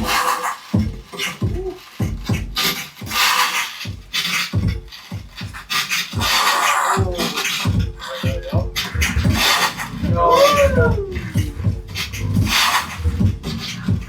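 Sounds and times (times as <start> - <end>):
hip hop beat with bass kicks: 0.0 - 14.0
scratchy beatbox-like sounds: 0.0 - 14.0.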